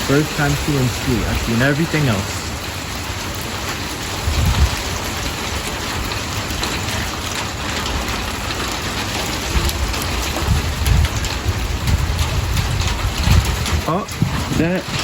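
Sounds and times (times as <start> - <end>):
sleet and rain hissing: 0.0 - 15.0
wind buffeting microphone: 0.0 - 15.0.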